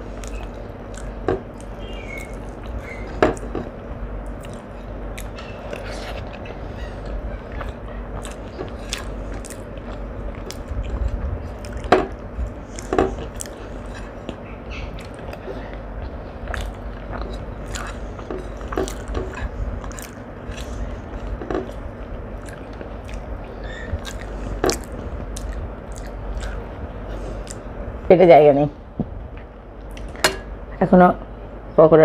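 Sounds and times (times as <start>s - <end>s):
person chewing food: 0.0s - 27.8s, 29.2s - 30.5s
steady low hum: 0.0s - 32.0s.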